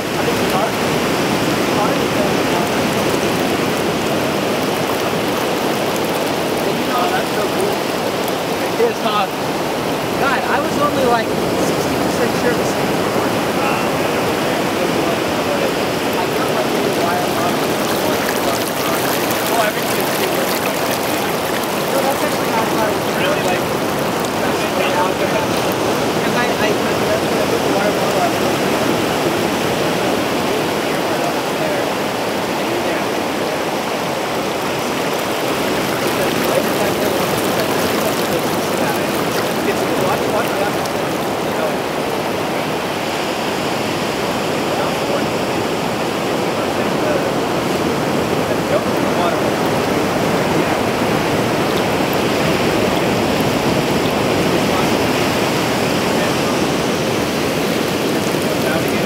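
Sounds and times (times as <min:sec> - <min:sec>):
shallow water flowing over sand: 0:00.0 - 0:59.0.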